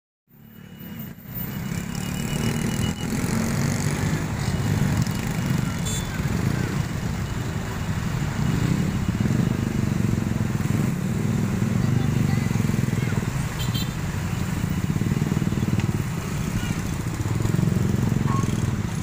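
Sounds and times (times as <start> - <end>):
many scooter engines rumbling: 0.3 - 19.0.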